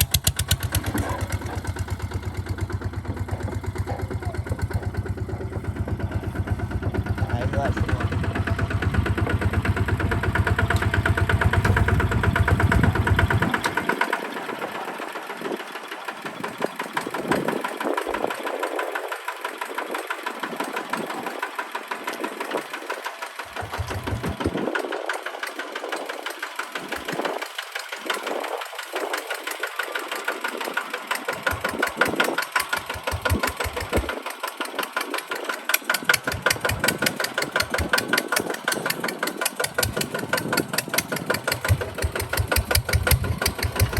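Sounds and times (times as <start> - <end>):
tractor diesel engine knocking: 0.0 - 43.9.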